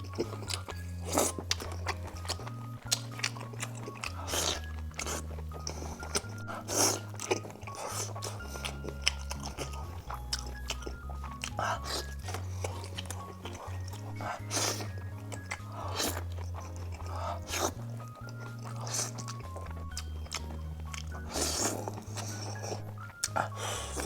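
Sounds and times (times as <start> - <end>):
background music with bass line: 0.0 - 24.0
crunchy bites and chewing: 0.0 - 24.0.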